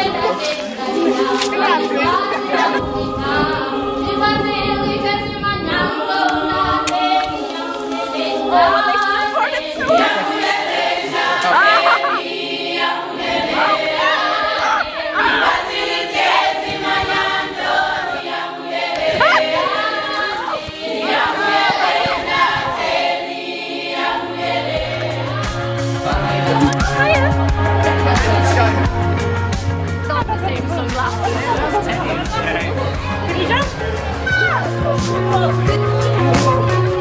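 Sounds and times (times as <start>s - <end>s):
group singing unaccompanied: 0.0s - 37.0s.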